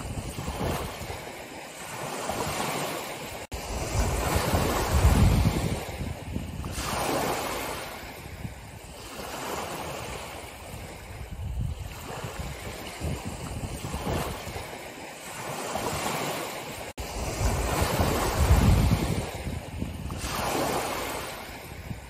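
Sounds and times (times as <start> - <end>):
waves washing onto stony shore: 0.0 - 22.0.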